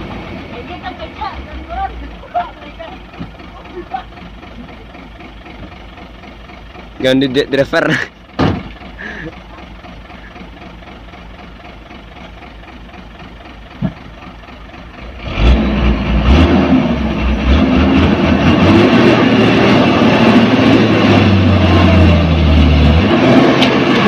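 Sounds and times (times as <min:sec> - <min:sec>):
diesel truck engine working: 0:00.0 - 0:24.0.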